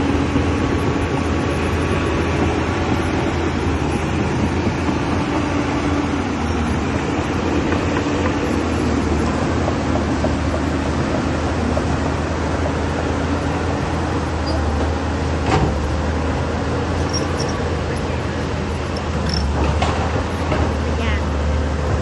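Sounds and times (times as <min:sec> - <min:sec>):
diesel engine deep hum: 0:00.0 - 0:22.0.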